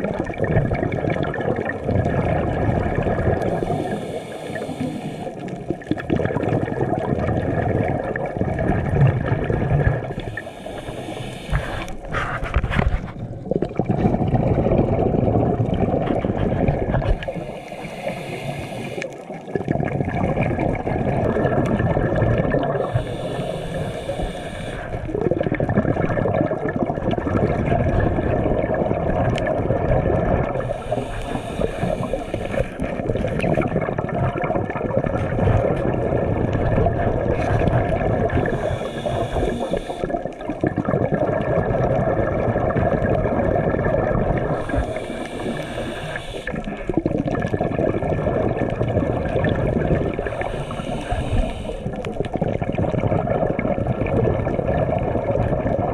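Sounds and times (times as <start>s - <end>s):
exhaled breath bubbling: 0.0s - 55.9s
underwater water rush: 0.0s - 55.9s.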